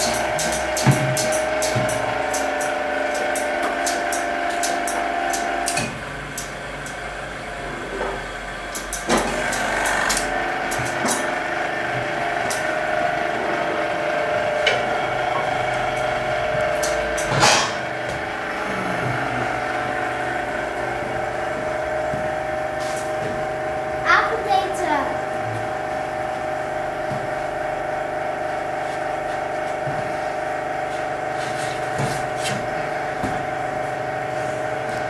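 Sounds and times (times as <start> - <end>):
workshop hum: 0.0 - 35.0.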